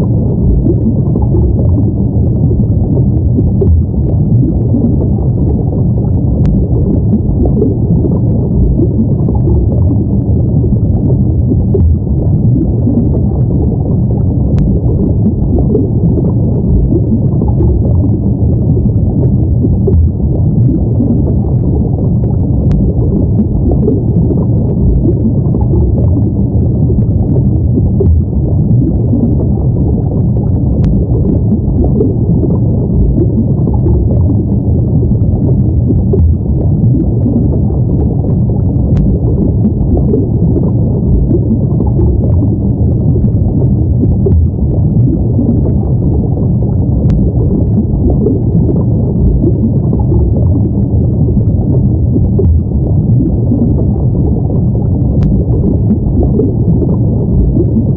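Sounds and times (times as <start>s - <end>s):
muffled underwater rumbling: 0.0s - 57.9s.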